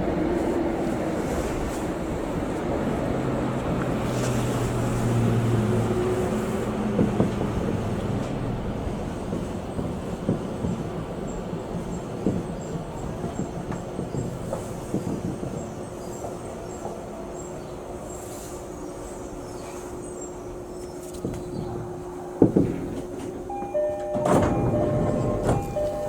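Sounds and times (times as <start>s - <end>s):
electric train running hum: 0.0s - 26.0s.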